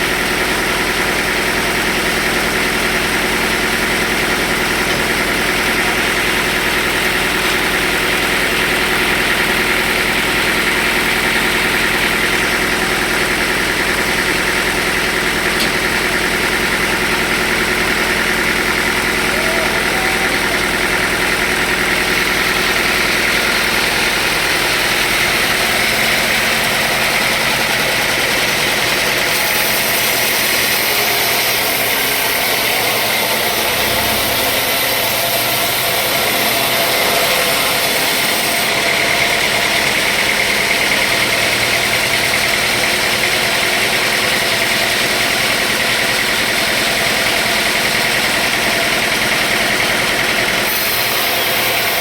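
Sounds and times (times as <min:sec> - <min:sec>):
sawmill machinery drone: 0:00.0 - 0:52.0.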